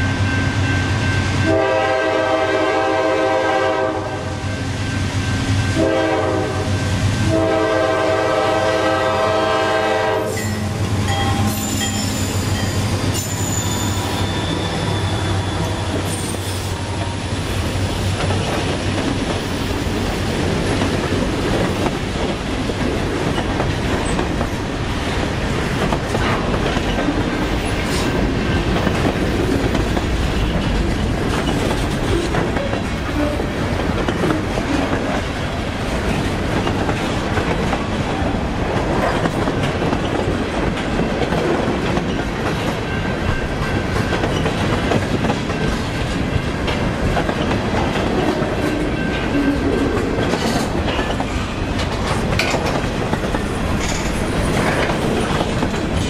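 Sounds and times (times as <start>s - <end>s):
freight train wheels clattering: 6.2s - 56.0s.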